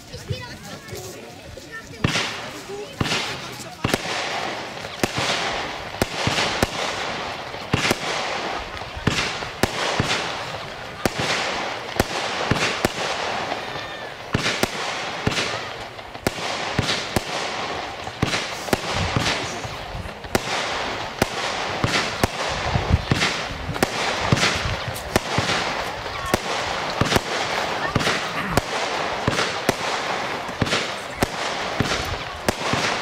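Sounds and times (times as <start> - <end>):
fireworks hissing: 0.0 - 33.0
firework battery shots: 1.9 - 33.0.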